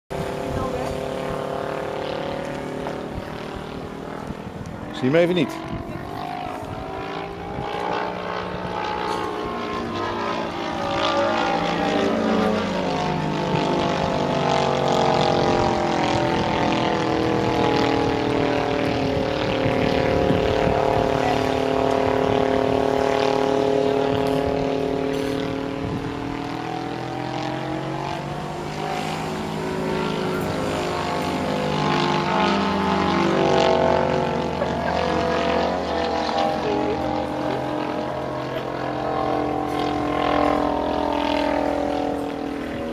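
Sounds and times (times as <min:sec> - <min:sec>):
propeller plane engine droning: 0:00.1 - 0:42.9.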